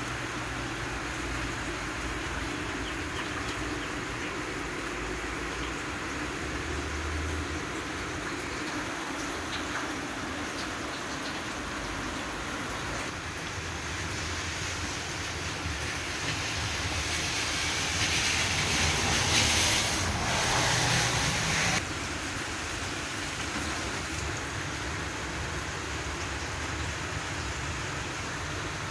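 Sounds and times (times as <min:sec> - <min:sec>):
rain falling: 0:00.0 - 0:28.9.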